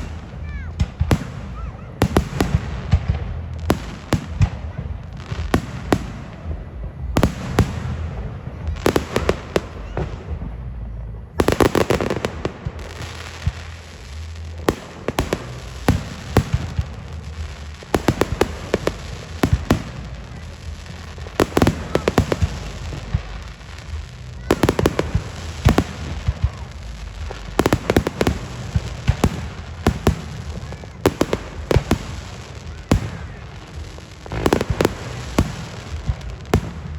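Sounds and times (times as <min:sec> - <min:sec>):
fireworks bangs and crackles: 0:00.0 - 0:36.9
low rumble: 0:00.0 - 0:36.9.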